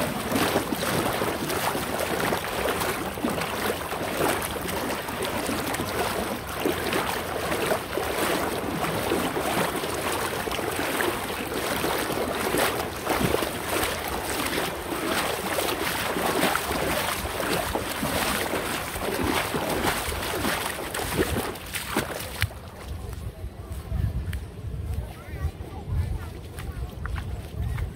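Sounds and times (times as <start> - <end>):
water splashing and rushing: 0.0 - 22.7.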